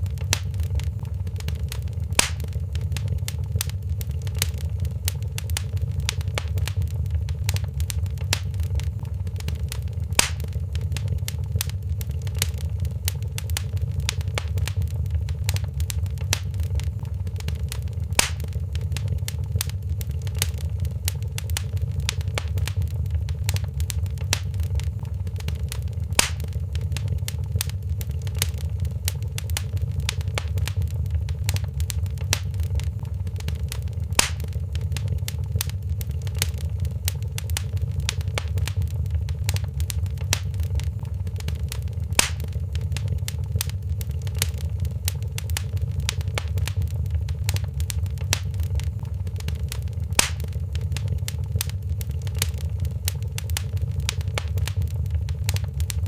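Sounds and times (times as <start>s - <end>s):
sharp pop from fire: 0.0s - 56.0s
wood fire crackling: 0.0s - 56.0s.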